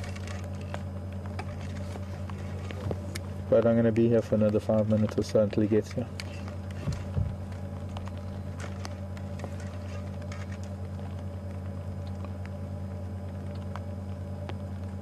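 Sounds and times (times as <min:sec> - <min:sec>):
faint clicks and crackles: 0:00.0 - 0:15.0.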